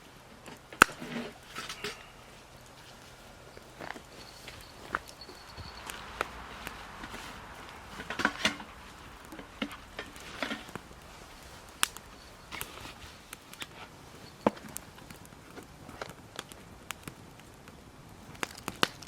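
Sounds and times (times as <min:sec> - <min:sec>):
rustling and clattering: 0:00.4 - 0:16.2.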